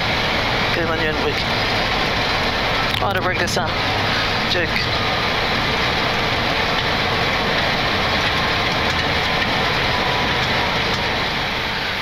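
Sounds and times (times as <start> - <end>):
jet landing rollout roar: 0.0 - 12.0.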